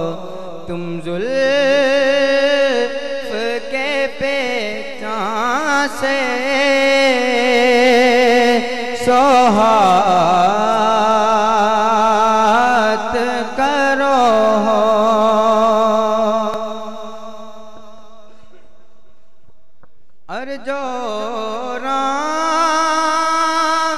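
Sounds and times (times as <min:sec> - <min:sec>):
man singing into a microphone: 0:00.0 - 0:18.7, 0:20.2 - 0:23.9.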